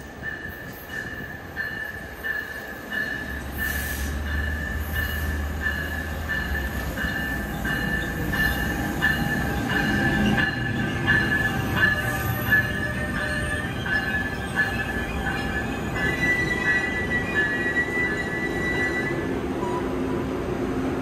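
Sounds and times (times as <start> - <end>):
train wheel squeal: 0.0 - 20.2
train low rumble: 0.0 - 21.0.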